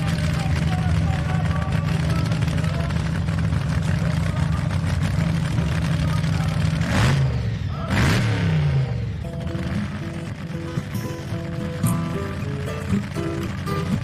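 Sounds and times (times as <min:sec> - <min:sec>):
heavy engine running: 0:00.0 - 0:14.0.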